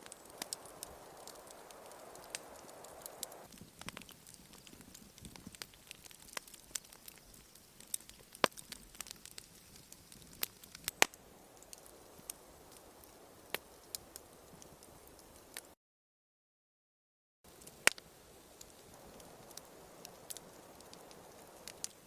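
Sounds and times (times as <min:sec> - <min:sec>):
wood fire crackling and popping: 0:00.0 - 0:15.7, 0:17.5 - 0:22.0.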